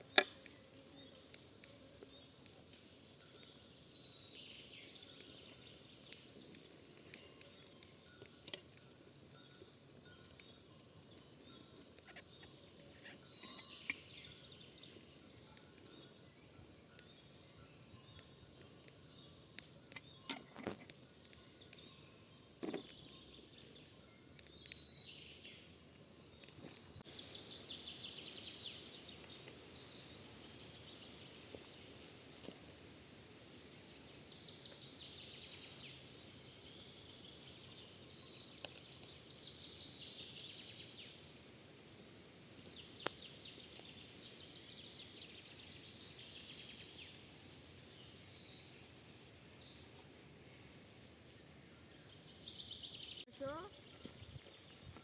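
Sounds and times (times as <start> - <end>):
birds chirping: 0.0 - 41.2, 42.5 - 55.0.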